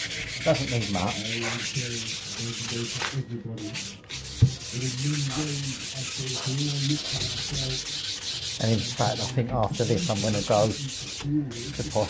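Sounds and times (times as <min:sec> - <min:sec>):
wet sandpaper rasping on stone: 0:00.0 - 0:12.0.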